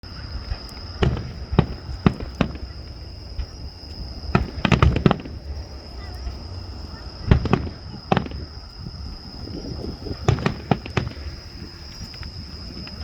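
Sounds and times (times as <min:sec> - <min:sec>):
fireworks bangs: 0:00.4 - 0:12.2.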